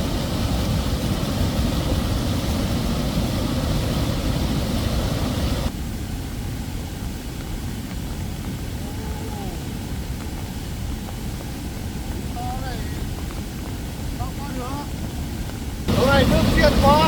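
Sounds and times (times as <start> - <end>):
fast stream rushing: 0.0 - 17.0.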